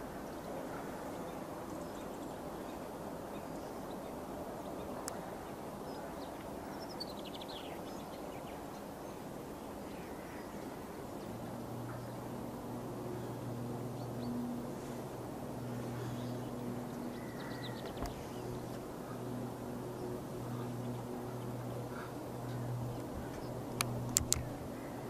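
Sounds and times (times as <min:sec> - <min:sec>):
distant aircraft: 0:00.0 - 0:25.0
low steady hum: 0:00.0 - 0:25.0.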